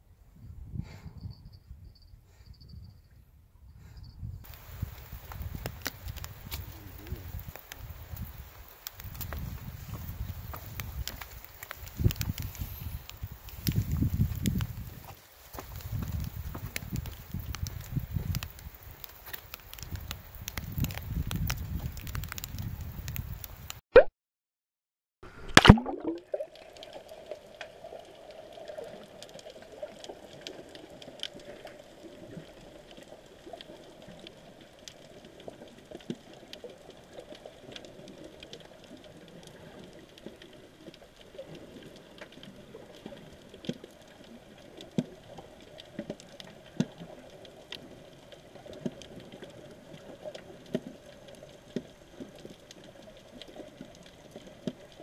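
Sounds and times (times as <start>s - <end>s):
clicks and crackles: 4.4s - 23.8s, 25.5s - 55.0s.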